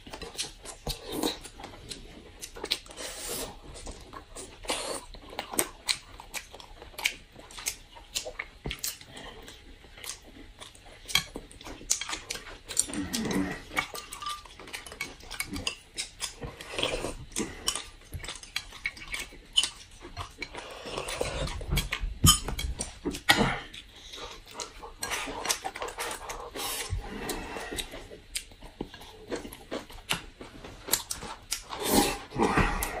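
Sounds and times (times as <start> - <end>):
people chewing: 0.0 - 33.0.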